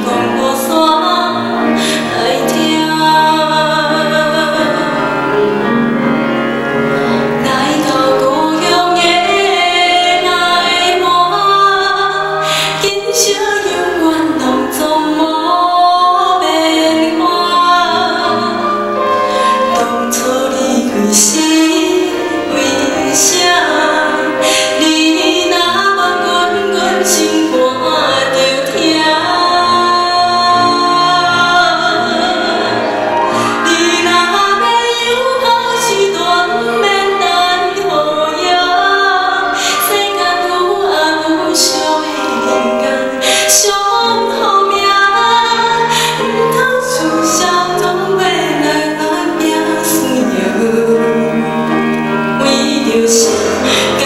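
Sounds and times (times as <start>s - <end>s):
woman singing a slow ballad: 0.0s - 5.1s, 7.4s - 51.5s, 52.4s - 54.0s
grand piano accompaniment: 0.0s - 54.0s.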